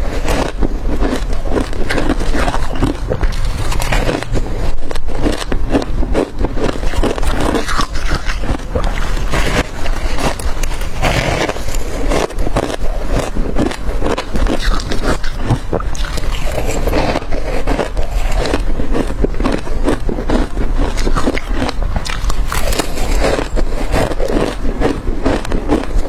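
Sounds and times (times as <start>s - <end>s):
crunching ice between teeth: 0.0s - 26.0s.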